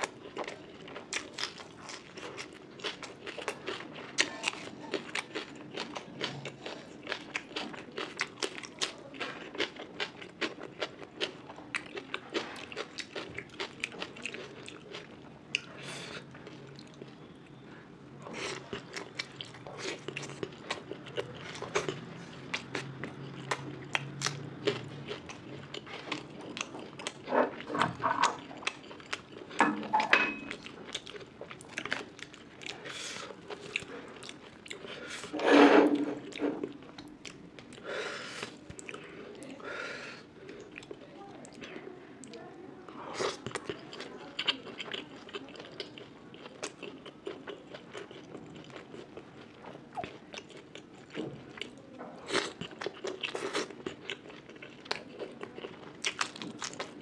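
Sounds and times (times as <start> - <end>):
close chewing and biting food: 0.0 - 17.4, 18.2 - 29.6, 30.3 - 35.4, 43.1 - 57.0
food crunching: 0.0 - 17.6, 18.2 - 39.2, 43.1 - 57.0.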